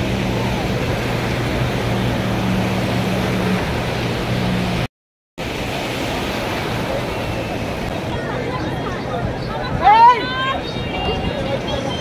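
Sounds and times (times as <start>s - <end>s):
surf washing over shallows: 0.0s - 12.0s.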